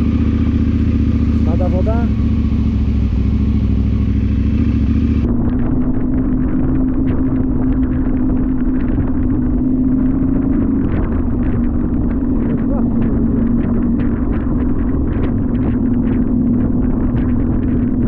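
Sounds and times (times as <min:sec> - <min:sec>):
engine hum with small clicks: 0:00.0 - 0:18.0
motorcycle engine rumbling: 0:00.0 - 0:18.0.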